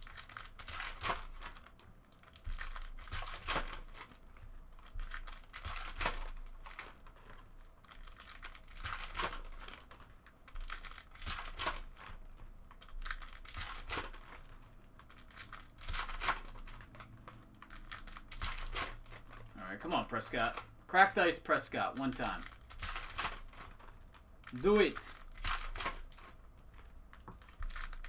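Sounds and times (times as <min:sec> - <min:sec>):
cards being handled: 0:00.0 - 0:28.0
foil wrappers crinkling and tearing: 0:00.0 - 0:28.0.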